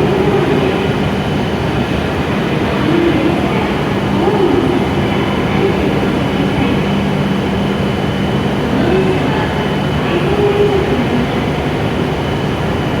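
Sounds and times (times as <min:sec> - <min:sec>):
faint voices: 0:00.0 - 0:13.0
low hum from standing train: 0:00.0 - 0:13.0.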